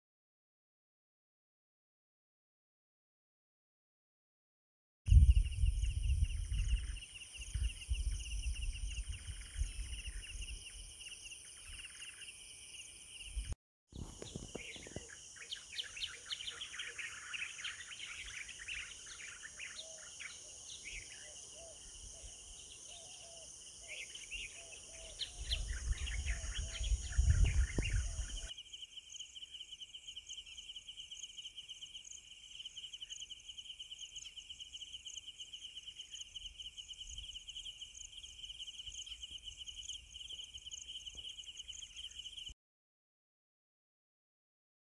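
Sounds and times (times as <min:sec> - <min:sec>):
crickets trilling: 0:05.1 - 0:42.6
birds chirping and calling: 0:05.2 - 0:42.5.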